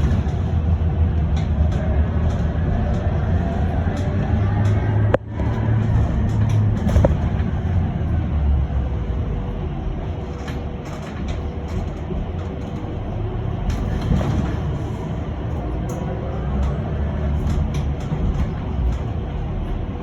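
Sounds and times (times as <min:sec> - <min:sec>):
road and tyre rumble: 0:00.0 - 0:20.0.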